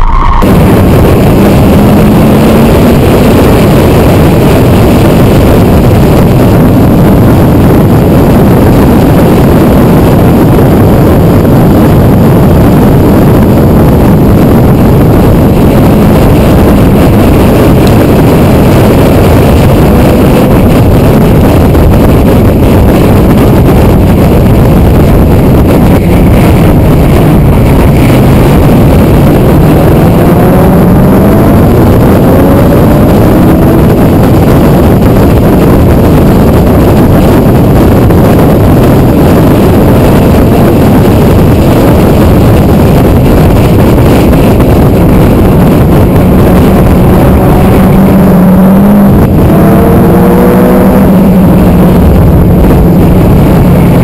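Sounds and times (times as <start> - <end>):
car engine running hard: 0.0 - 54.0
heavy wind noise: 0.0 - 54.0.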